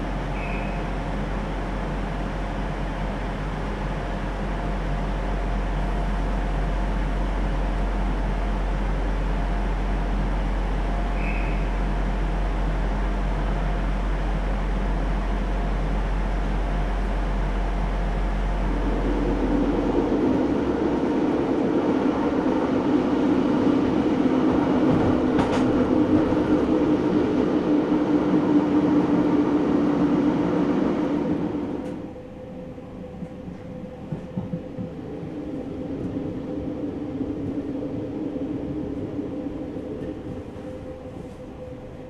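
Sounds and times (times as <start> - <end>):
train rumble with droning hum: 0.0 - 42.0.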